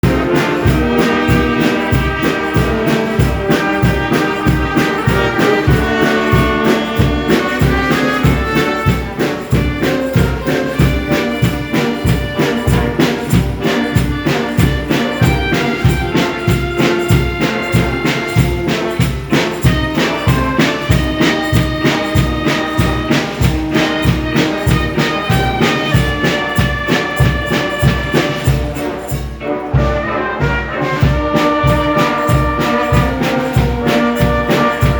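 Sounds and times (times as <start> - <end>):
brass band playing: 0.0 - 34.9.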